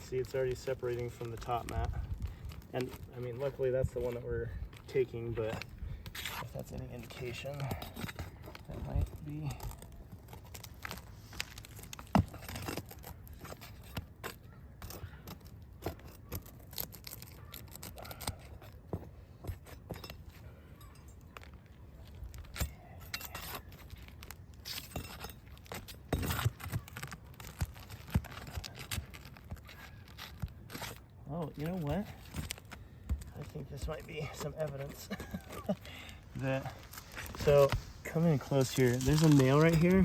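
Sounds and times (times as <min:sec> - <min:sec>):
roofing shingles scraping and crinkling: 0:00.0 - 0:40.0.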